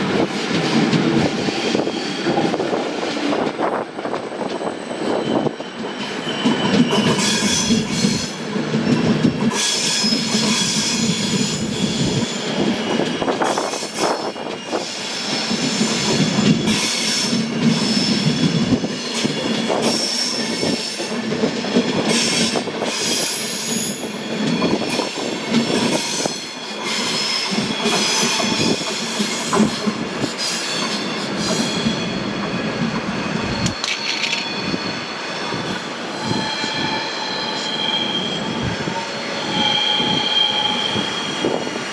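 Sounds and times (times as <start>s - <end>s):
train rumble: 0.0s - 41.9s
train wheels squealing: 1.2s - 41.9s.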